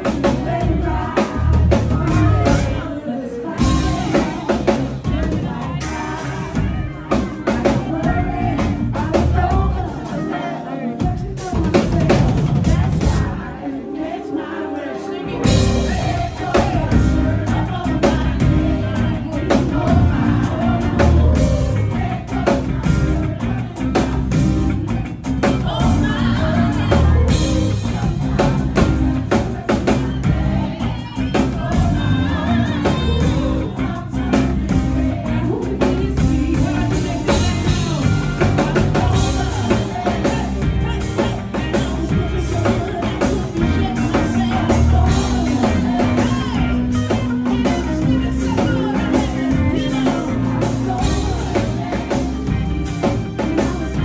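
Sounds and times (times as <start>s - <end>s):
backing singers: 0.0s - 54.0s
lead singer: 0.0s - 54.0s
live band playing: 0.0s - 54.0s.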